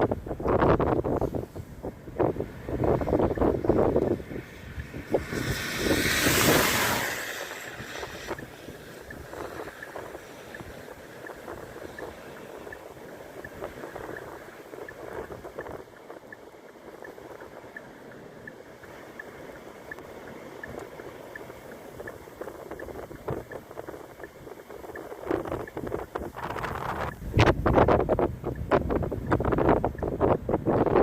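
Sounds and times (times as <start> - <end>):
wind gusting on microphone: 0.0 - 31.0
faint high ticking: 0.5 - 31.0.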